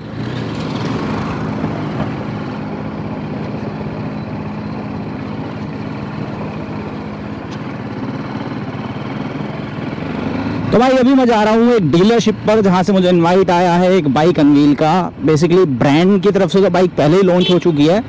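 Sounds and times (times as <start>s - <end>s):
motorcycle engine at low revs: 0.0s - 16.9s.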